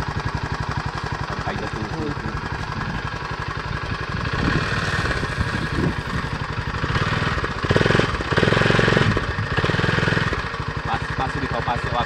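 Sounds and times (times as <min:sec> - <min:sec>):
motorcycle engine popping exhaust: 0:00.0 - 0:12.0.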